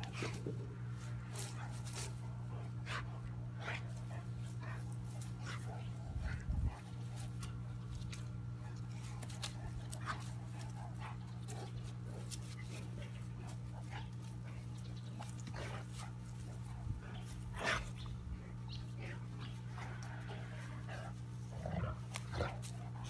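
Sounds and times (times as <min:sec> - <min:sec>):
dogs play-wrestling: 0:00.0 - 0:23.0
steady low hum: 0:00.0 - 0:23.0.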